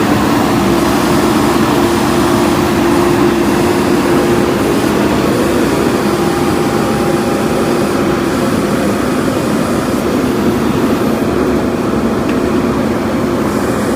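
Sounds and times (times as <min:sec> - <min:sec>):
diesel engine running steadily: 0:00.0 - 0:13.9
faint steady hum: 0:00.0 - 0:13.9.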